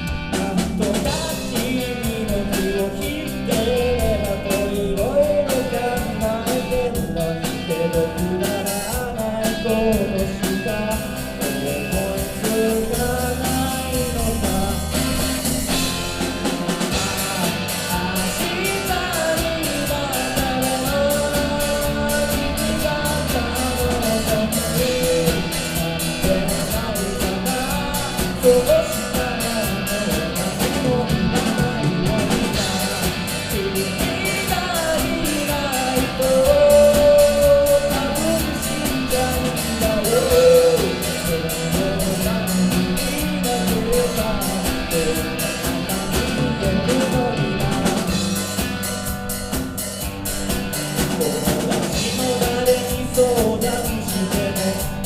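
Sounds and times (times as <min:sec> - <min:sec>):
person singing: 0:00.0 - 0:48.9, 0:50.8 - 0:55.0
live rock band playing: 0:00.0 - 0:55.0.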